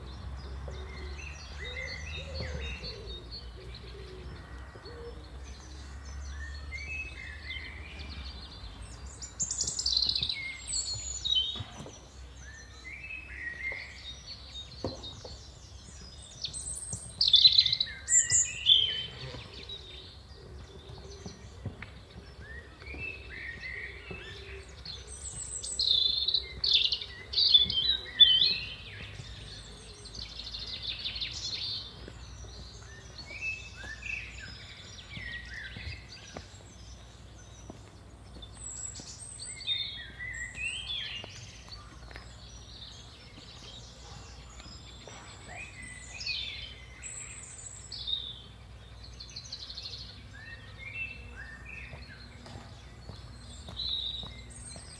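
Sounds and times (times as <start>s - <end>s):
birds chirping and singing: 0.0s - 54.9s.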